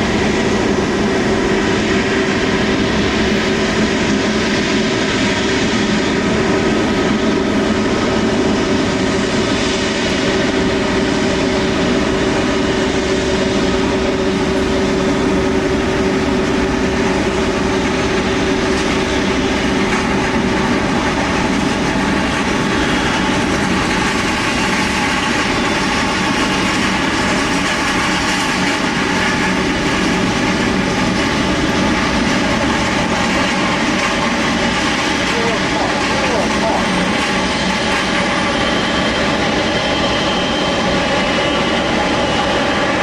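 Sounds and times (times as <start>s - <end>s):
jet engine whine: 0.0s - 43.0s
jet engines roaring: 0.0s - 43.0s.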